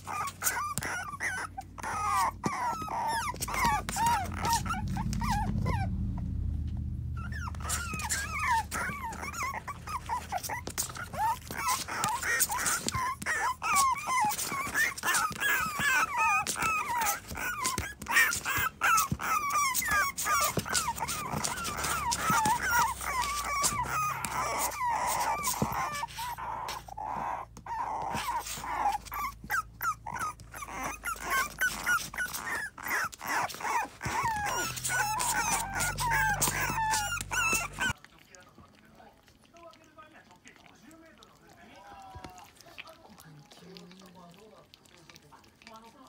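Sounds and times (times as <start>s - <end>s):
puppies whining: 0.0s - 46.0s.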